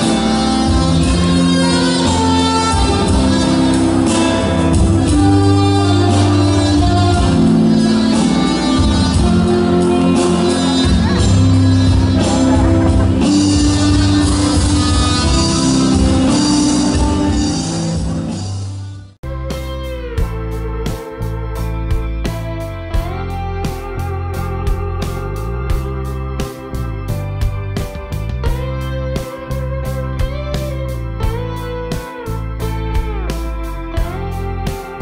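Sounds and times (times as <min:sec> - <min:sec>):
different tune: 0:00.0 - 0:35.0
music playing: 0:00.0 - 0:35.0.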